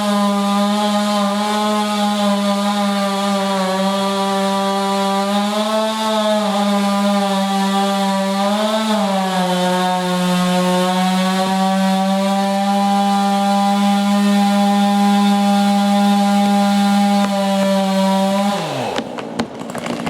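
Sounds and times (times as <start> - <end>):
chainsaw running at high revs: 0.0 - 20.0.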